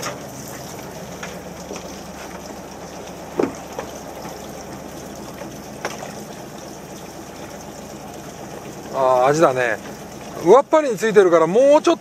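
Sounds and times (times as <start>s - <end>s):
boat engine idling: 0.0s - 12.0s
water splashing: 0.0s - 12.0s.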